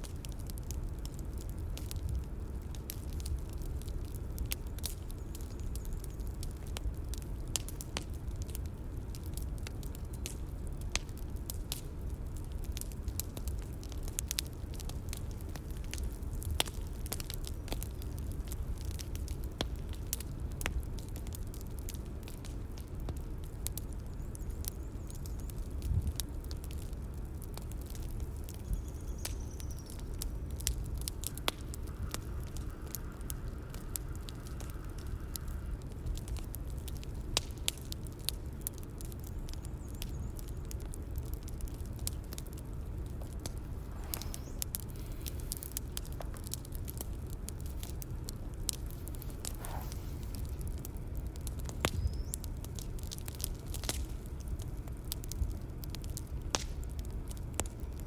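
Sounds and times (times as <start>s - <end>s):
low rumble of flames: 0.0s - 58.0s
wood fire crackling: 0.0s - 58.0s.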